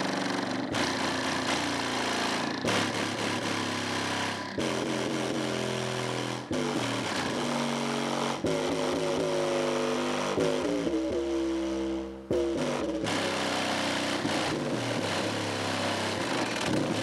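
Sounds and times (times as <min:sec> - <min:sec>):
subwoofer bass notes: 0:00.7 - 0:17.0.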